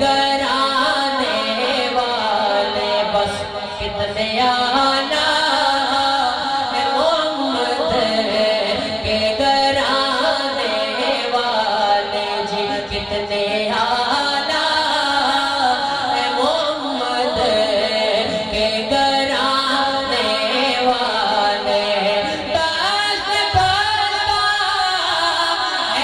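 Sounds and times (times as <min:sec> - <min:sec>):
man singing devotional song: 0:00.0 - 0:26.0.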